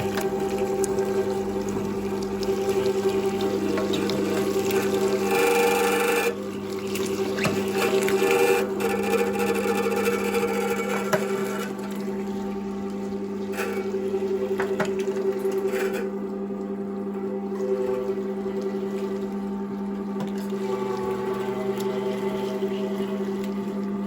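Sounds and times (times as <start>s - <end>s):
meat grinder motor hum: 0.0s - 24.0s.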